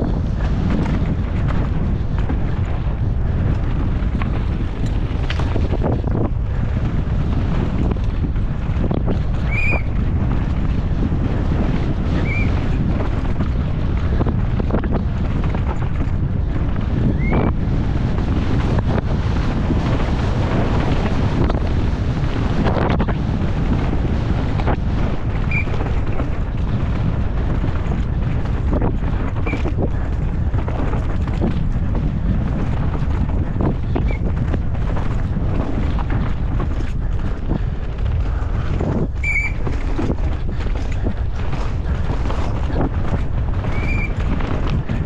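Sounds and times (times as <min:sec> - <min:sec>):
bike rattling and knocking: 0:00.0 - 0:45.0
tyres rolling over dirt and rocks: 0:00.0 - 0:45.0
wind rushing over microphone: 0:00.0 - 0:45.0.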